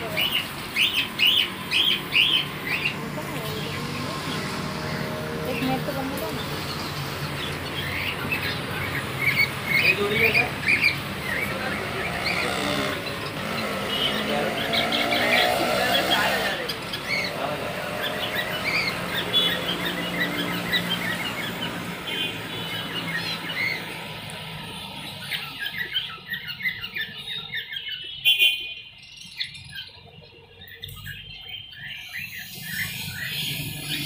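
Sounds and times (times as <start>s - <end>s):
finches chirping: 0.0s - 34.0s.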